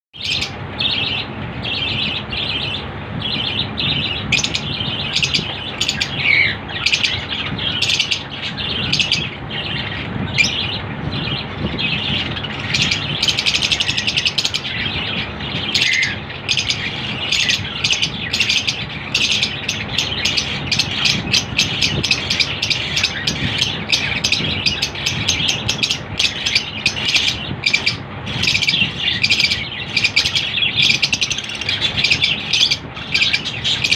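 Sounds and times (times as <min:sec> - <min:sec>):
lovebirds chirping: 0:00.2 - 0:33.9.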